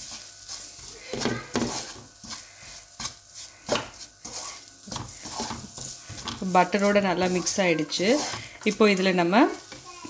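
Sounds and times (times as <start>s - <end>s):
spatula scraping frying pan: 0.0s - 10.0s.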